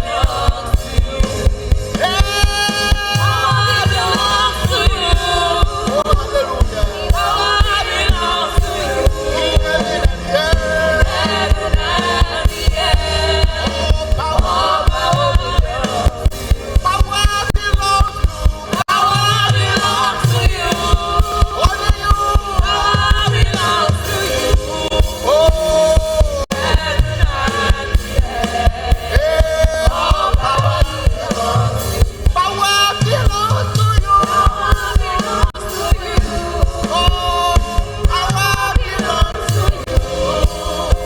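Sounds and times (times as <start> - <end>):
band playing driving beat: 0.0 - 41.0
choir singing: 0.0 - 41.0
people singing: 0.0 - 41.0.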